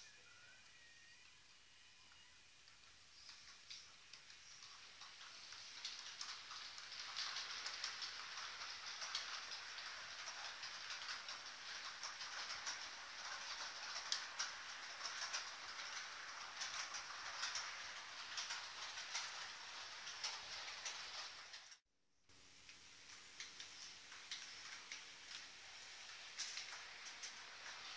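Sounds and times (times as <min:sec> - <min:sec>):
model train rolling on track: 0:00.0 - 0:21.8, 0:22.4 - 0:27.9
wheels clicking over rail joints: 0:02.6 - 0:21.8, 0:22.7 - 0:27.9.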